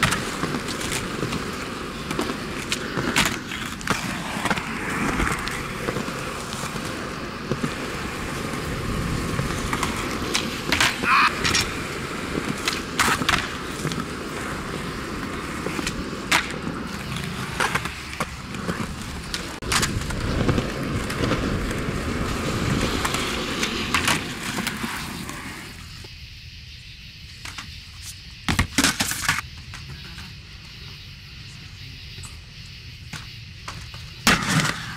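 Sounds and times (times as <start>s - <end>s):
skateboard clacks: 0.0s - 26.1s, 28.4s - 30.4s, 33.1s - 34.9s
skateboard wheels rolling on concrete: 0.0s - 34.9s.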